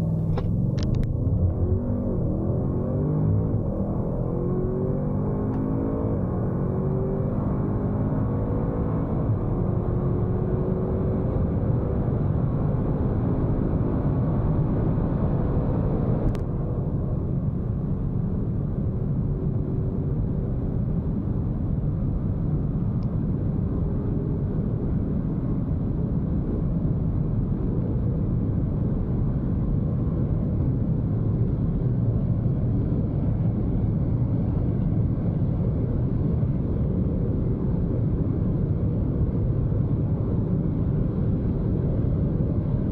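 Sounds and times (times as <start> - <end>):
car engine at full throttle: 0.0 - 42.9
wind and tyre roar: 0.0 - 42.9.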